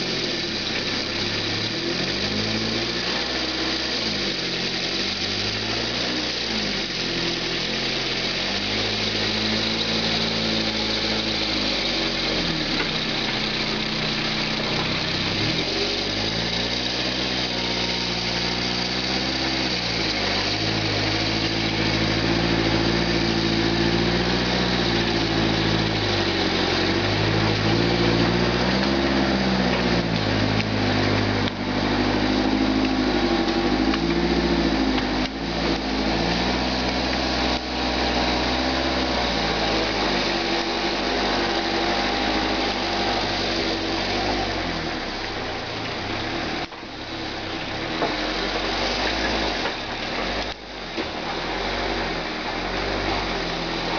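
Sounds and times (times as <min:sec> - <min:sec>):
machine engine revving: 0:00.0 - 0:53.9.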